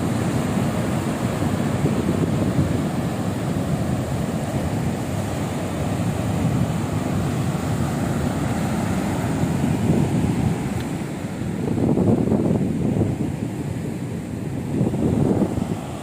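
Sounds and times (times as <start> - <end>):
surf breaking on beach: 0.0 - 16.0
wind rumbling on microphone: 0.0 - 16.0.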